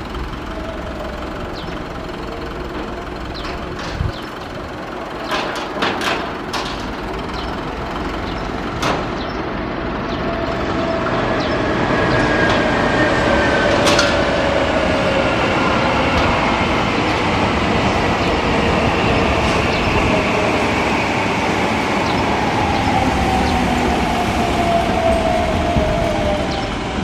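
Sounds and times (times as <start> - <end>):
heavy vehicle rumbling: 0.0 - 27.0.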